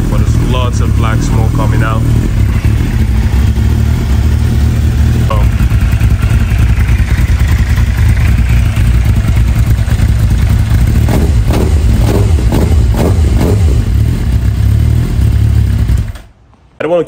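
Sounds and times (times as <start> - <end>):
motorcycle engine running rough: 0.0 - 16.3.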